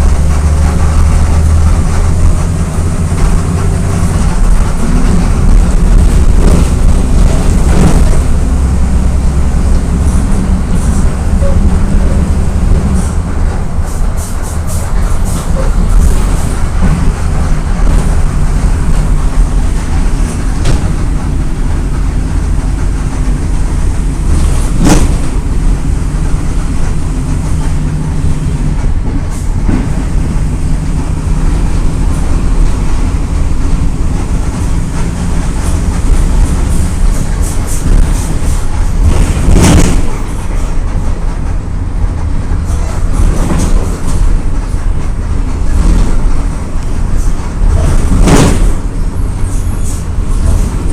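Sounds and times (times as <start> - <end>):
bus engine and road drone: 0.0 - 50.9.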